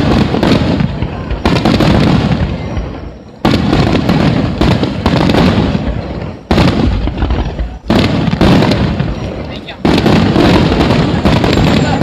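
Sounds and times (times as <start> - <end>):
fireworks bursting: 0.0 - 12.0
rumble of fireworks: 0.0 - 12.0.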